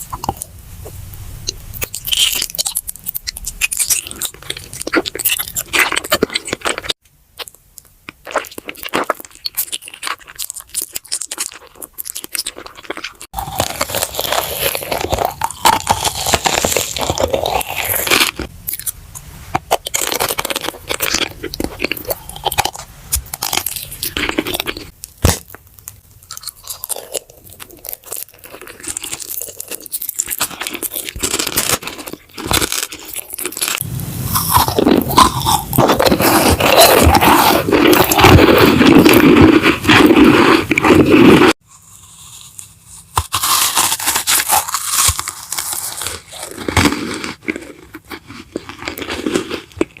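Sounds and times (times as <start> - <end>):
crunchy food chewing: 0.0 - 0.5, 1.4 - 50.0.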